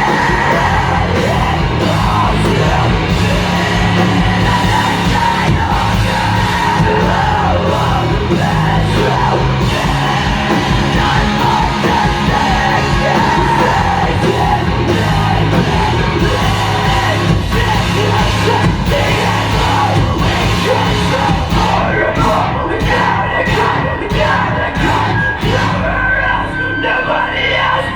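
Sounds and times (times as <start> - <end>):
rock band playing: 0.0 - 26.8
singer shouting vocals: 0.0 - 27.9.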